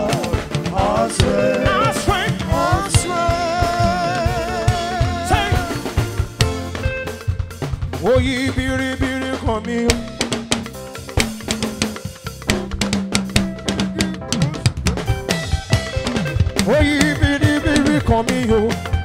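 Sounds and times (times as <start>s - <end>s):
drum kit beat: 0.0s - 19.0s
worship band music: 0.0s - 19.0s.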